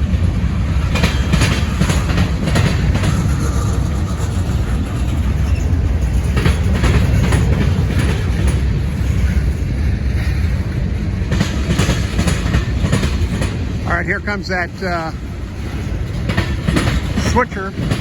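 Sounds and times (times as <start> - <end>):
train wheels rumbling on rails: 0.0 - 18.0
wheels clicking over rail joints: 0.0 - 18.0.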